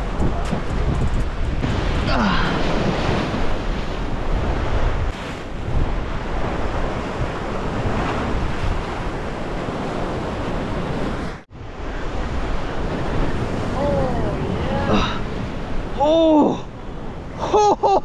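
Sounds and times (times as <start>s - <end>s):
surf washing against rocks: 0.0s - 17.4s
wind buffeting microphone: 0.0s - 17.4s.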